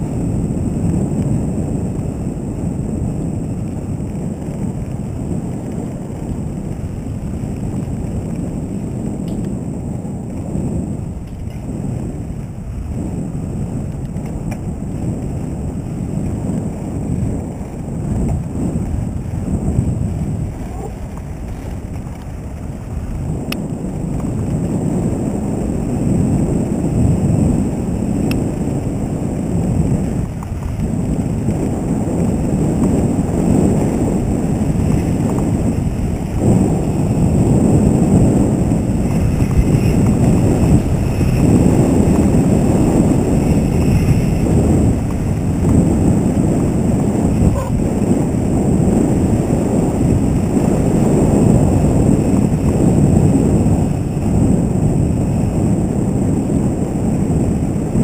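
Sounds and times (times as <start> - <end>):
bike tyres rumbling over dirt: 0.0 - 58.0
wind buffeting microphone: 0.0 - 58.0.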